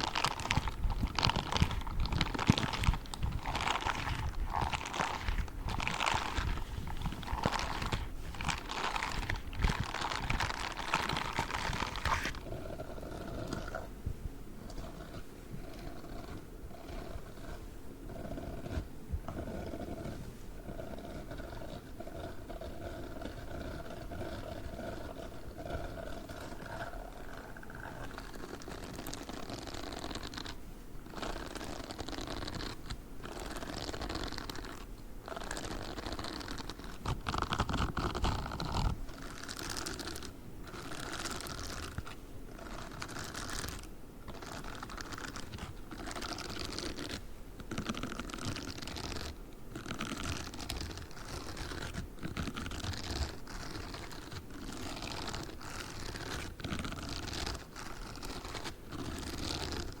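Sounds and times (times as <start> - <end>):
rubber gloves rubbing and scratching: 0.0 - 60.0.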